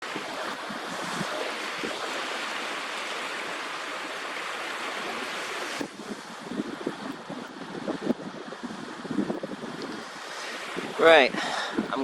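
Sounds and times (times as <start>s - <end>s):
sea water lapping at shore: 0.0s - 12.0s.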